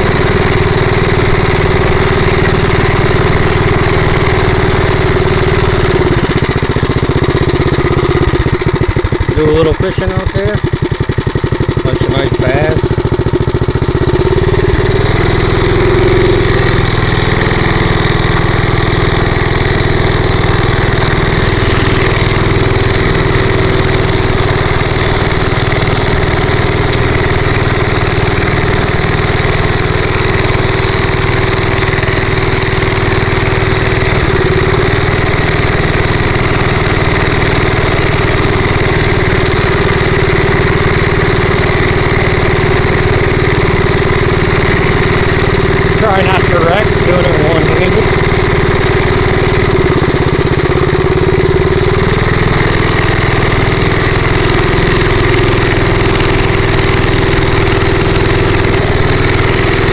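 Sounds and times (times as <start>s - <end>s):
minibike engine running: 0.0s - 59.9s.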